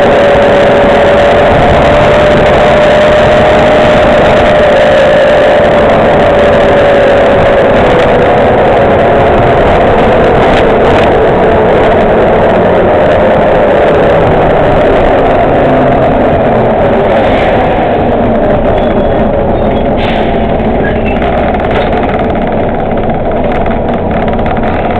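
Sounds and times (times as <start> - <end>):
bus engine rumble with whine: 0.0 - 24.9.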